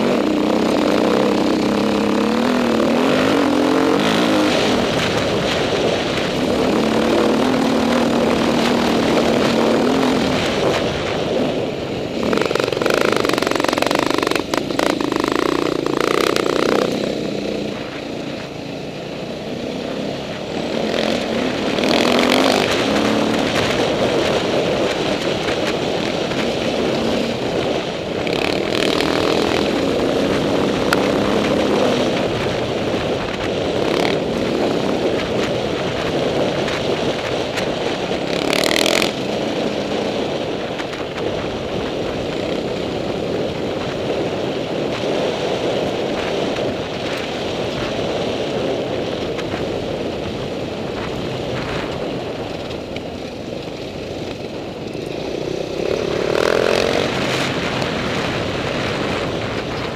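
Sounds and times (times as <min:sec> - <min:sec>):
dirt bike engine revving: 0:00.0 - 0:43.4, 0:54.9 - 0:59.8.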